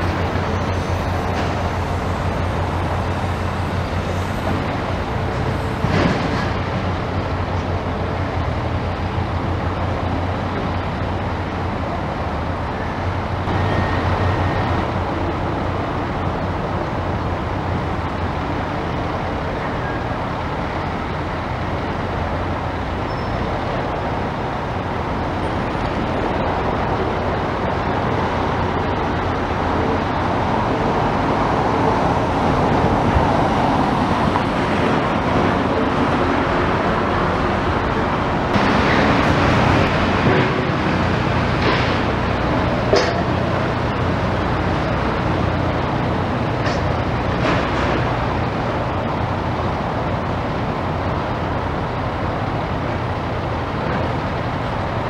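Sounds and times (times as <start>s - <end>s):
engine rumble: 0.0s - 55.0s
noisy wash: 0.0s - 55.0s.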